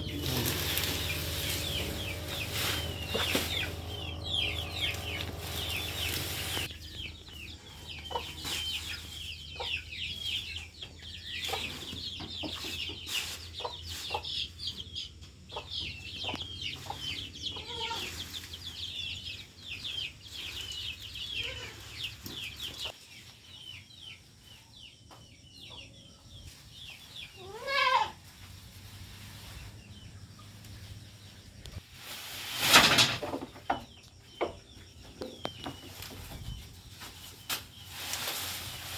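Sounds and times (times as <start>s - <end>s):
chickens chirping: 0.0s - 38.9s.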